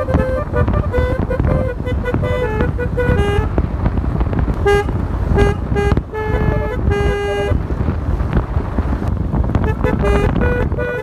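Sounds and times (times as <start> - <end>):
low rumble: 0.0 - 10.9
multi-tone horn playing a tune: 0.0 - 11.0.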